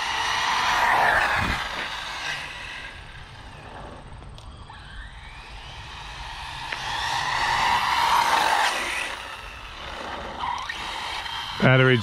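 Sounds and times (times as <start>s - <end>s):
electric motor whining passing: 0.0s - 12.0s.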